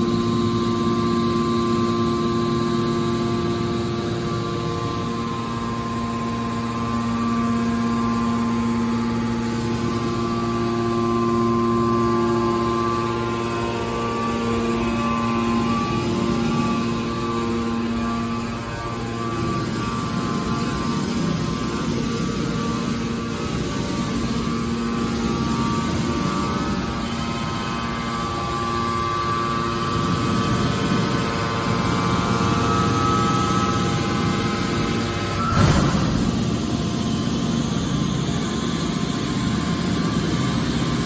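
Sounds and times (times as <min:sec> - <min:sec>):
hydraulic power unit humming: 0:00.0 - 0:41.0.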